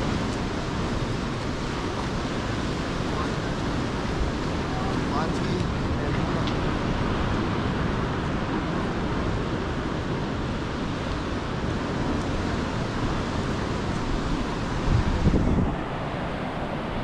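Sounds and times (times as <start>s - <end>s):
ocean surf breaking: 0.0s - 17.0s
wind noise on microphone: 0.0s - 17.0s.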